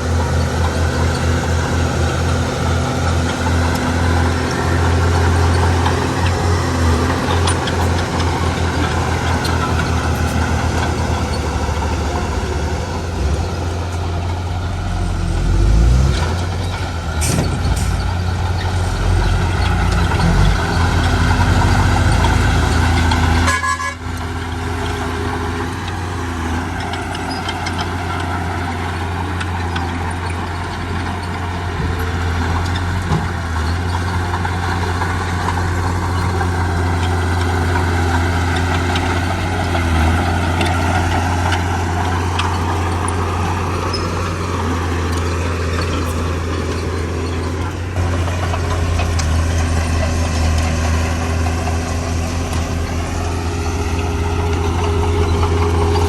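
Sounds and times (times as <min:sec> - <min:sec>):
heavy diesel engines droning: 0:00.0 - 0:56.0.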